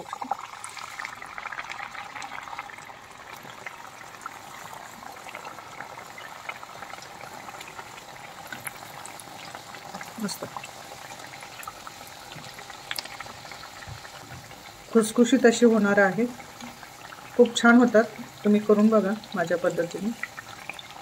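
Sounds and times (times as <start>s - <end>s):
hot oil sizzling and bubbling: 0.0s - 21.0s.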